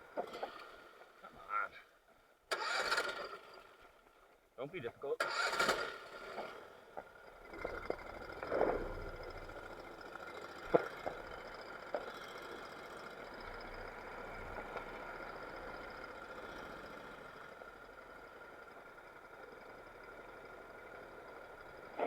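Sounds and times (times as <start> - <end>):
small engine idling: 0.0 - 22.0.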